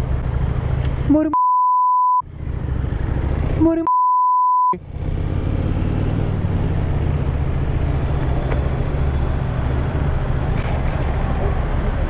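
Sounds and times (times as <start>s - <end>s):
wind and road noise: 0.0s - 1.4s, 2.2s - 3.9s, 4.6s - 12.0s.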